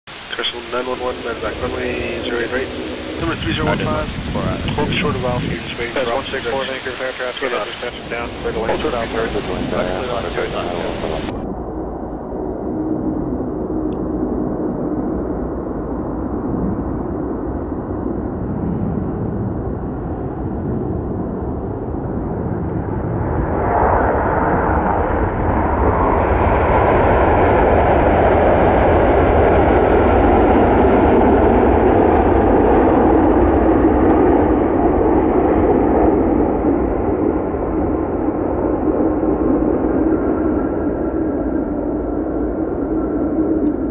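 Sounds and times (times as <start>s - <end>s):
jet engines rumbling: 0.1s - 43.9s.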